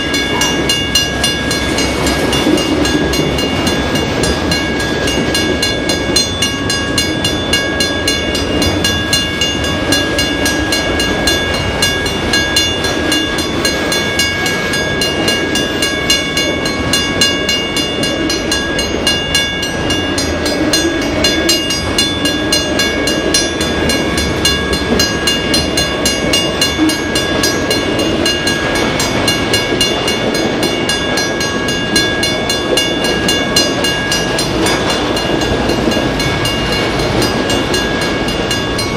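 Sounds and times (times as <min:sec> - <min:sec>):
crossing warning bell: 0:00.0 - 0:38.9
freight train wheels rumbling on rail: 0:00.0 - 0:38.9.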